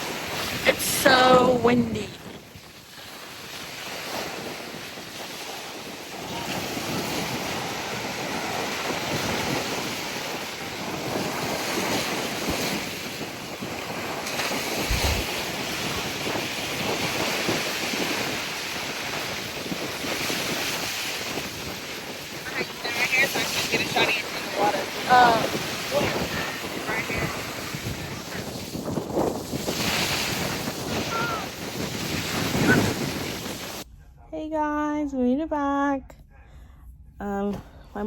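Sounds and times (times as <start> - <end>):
surf washing onto beach: 0.0 - 33.8
wind buffeting microphone: 0.0 - 33.9.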